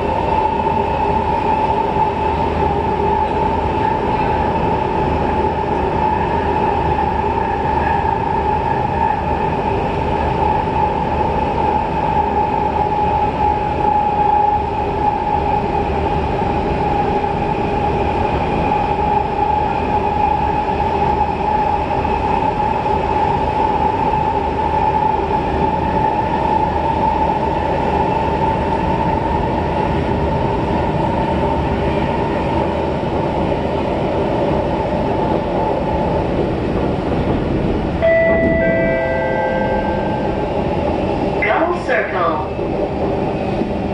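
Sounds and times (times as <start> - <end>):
steady train whine: 0.0 - 43.9
train wheels rumbling on rail: 0.0 - 43.9.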